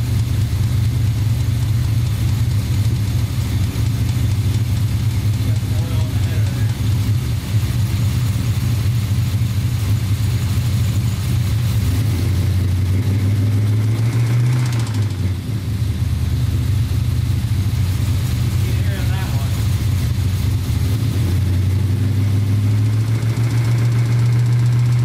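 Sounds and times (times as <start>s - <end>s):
engine running with knock: 0.0s - 25.0s.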